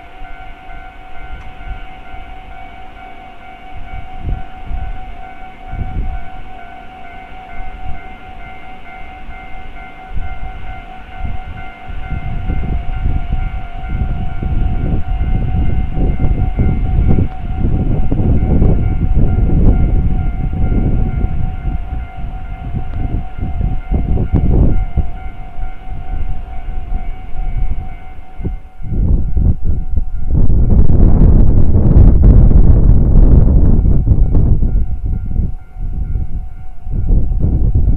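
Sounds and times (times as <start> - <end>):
level crossing warning bell: 0.0 - 37.9.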